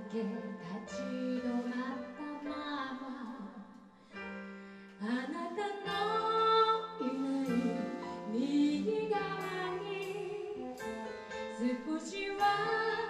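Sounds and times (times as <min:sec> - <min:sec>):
woman singing: 0:00.0 - 0:03.8, 0:05.0 - 0:13.0.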